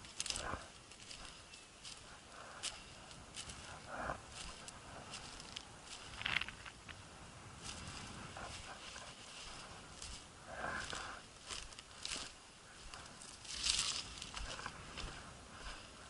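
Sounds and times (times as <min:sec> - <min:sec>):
footsteps through dry grass: 0:00.0 - 0:16.0.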